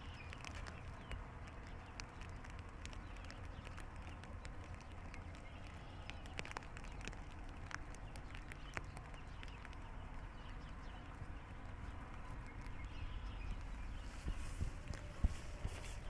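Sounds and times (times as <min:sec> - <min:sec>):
raindrops tapping on plastic: 0:00.0 - 0:16.0.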